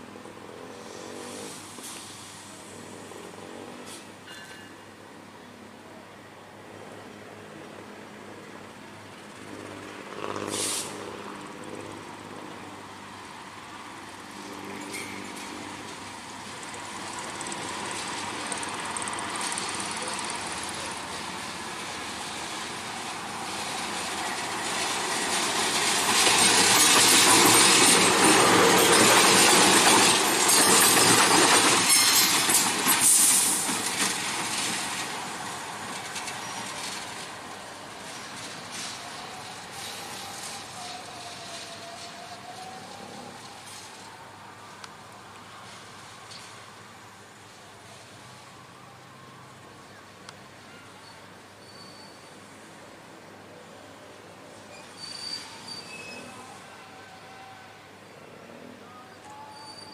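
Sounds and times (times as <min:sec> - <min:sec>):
diesel locomotive passing: 0:00.0 - 0:59.9.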